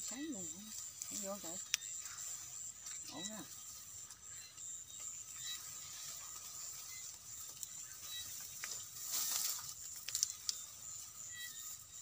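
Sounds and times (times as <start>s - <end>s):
night insects chorus: 0.0s - 12.0s
rustle of grass: 0.0s - 12.0s.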